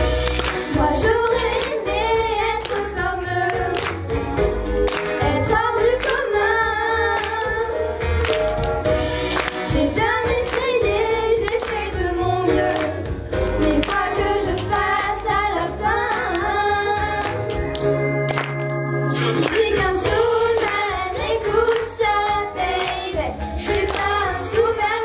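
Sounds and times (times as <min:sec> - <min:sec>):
bass: 0:00.0 - 0:25.0
girls singing: 0:00.5 - 0:04.0, 0:05.2 - 0:08.0, 0:09.5 - 0:17.8, 0:19.1 - 0:25.0.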